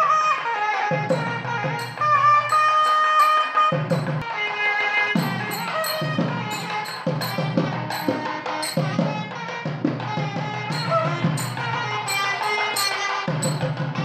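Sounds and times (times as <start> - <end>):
jingling percussion: 0.0 - 14.0
drum beat: 0.9 - 4.2, 5.2 - 14.0.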